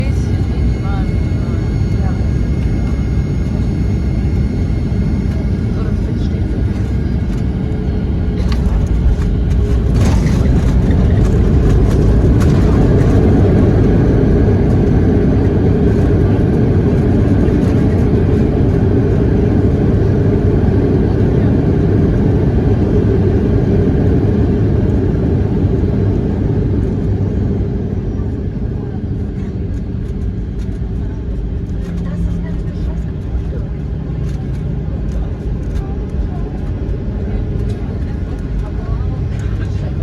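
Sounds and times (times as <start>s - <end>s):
airliner engines roaring: 0.0s - 40.0s
runway rumble: 0.0s - 40.0s.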